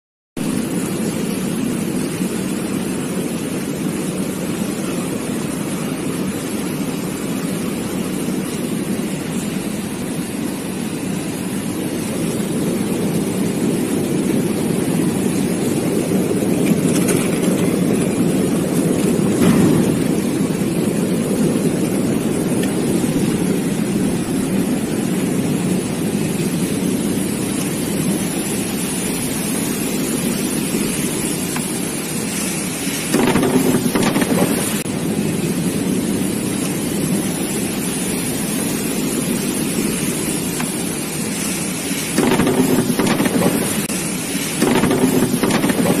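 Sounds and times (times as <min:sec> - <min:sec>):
washing machine churning: 0:00.4 - 0:46.0.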